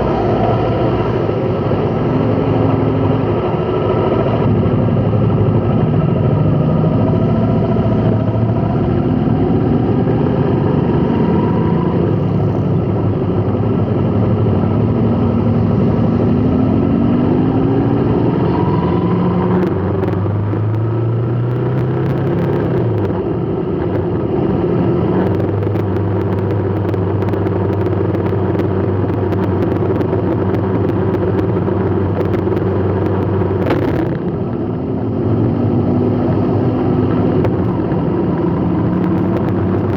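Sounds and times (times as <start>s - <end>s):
vehicle engines running: 0.0s - 39.9s.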